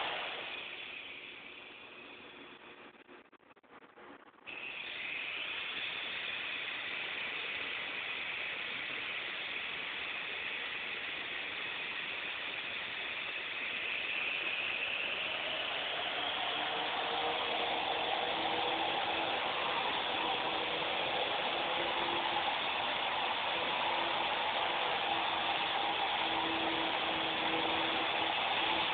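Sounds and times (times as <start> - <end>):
toy helicopter rotors whirring: 0.0 - 2.2, 4.5 - 28.9
low hum: 0.0 - 28.9.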